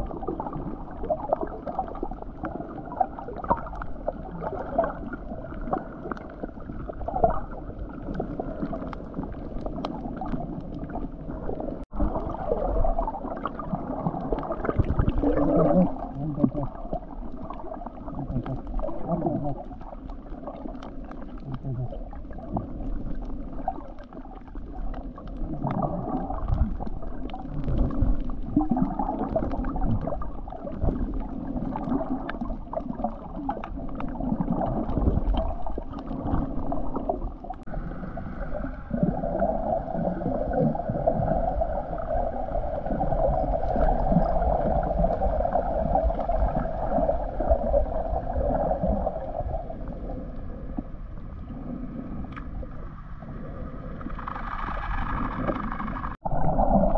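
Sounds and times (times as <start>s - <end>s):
underwater sloshing and gurgling: 0.0s - 56.9s.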